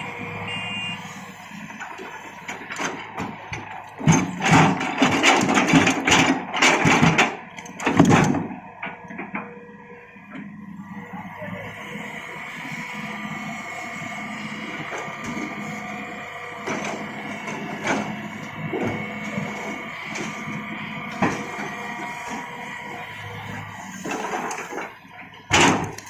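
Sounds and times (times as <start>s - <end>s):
excavator engine and hydraulics whine: 0.0s - 26.0s.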